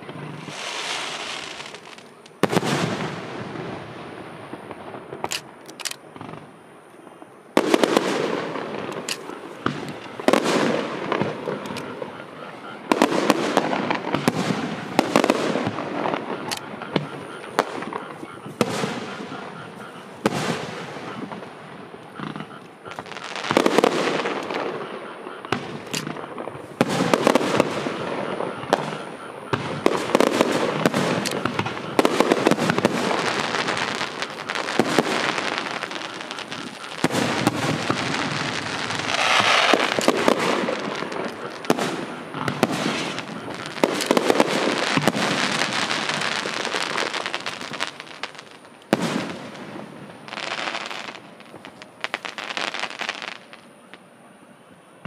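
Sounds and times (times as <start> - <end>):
fireworks bangs: 0.0 - 54.2
fireworks crackling: 0.0 - 55.0.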